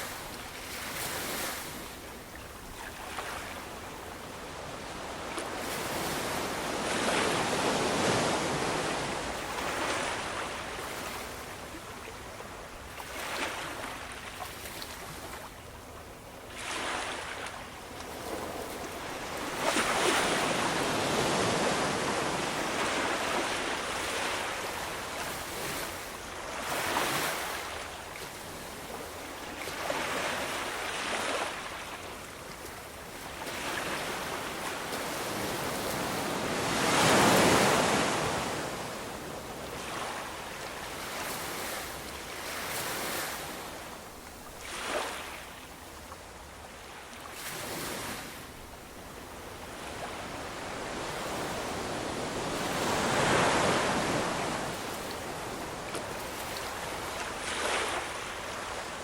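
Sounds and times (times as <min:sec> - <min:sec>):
ocean waves breaking on shore: 0:00.0 - 0:15.7, 0:16.3 - 0:59.0.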